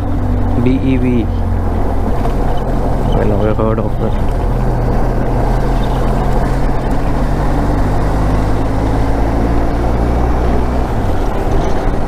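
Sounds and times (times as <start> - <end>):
motorcycle engine cruising: 0.0 - 12.0
road noise: 0.0 - 12.0
wind rush: 0.0 - 12.0.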